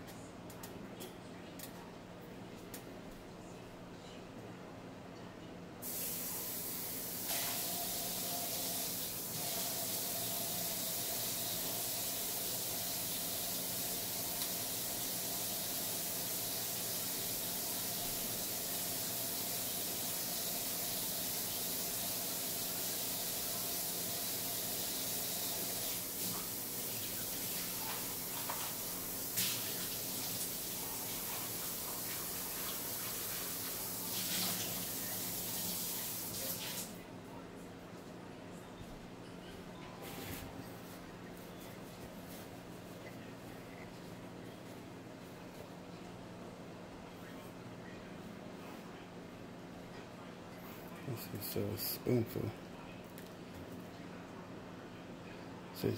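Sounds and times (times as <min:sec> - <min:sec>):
faint whine in pipes: 0:00.0 - 0:55.9.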